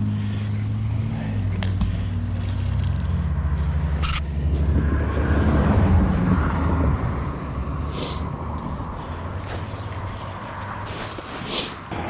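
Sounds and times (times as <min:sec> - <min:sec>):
passing vehicle engine drone: 0:00.0 - 0:11.0.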